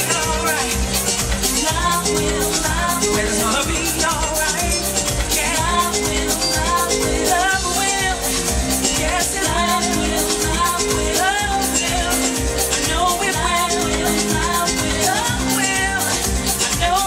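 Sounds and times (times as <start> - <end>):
house music with steady beat: 0.0 - 17.0
woman singing into microphone: 1.4 - 17.0.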